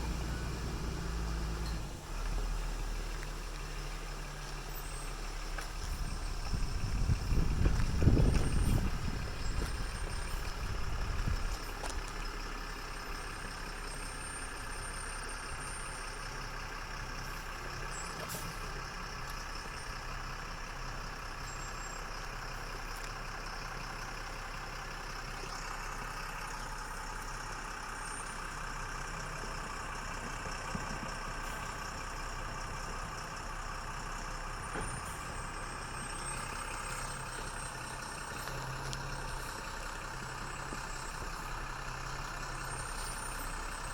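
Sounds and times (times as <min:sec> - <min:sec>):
truck diesel engine running: 0:00.0 - 0:43.9.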